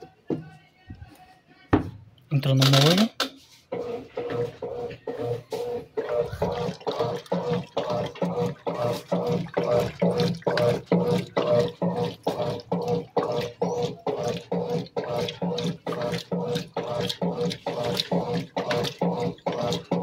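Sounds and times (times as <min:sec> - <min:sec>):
washing machine water swishing: 0:03.5 - 0:20.0
motor hum: 0:03.7 - 0:20.0.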